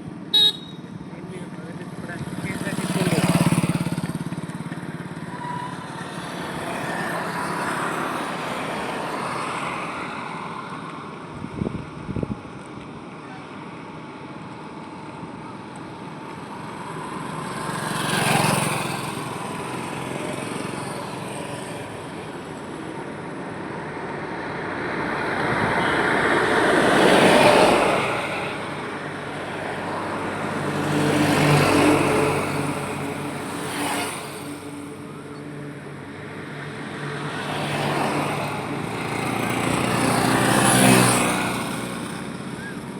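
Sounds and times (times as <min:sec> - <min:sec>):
vehicles passing on highway: 0:00.0 - 0:42.9.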